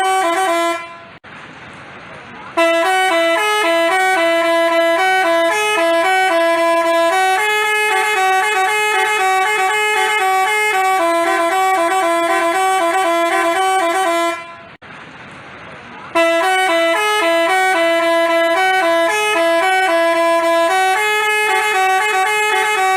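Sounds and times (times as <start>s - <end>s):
musical bus horn melody: 0.0s - 1.2s, 2.5s - 14.8s, 16.1s - 22.9s.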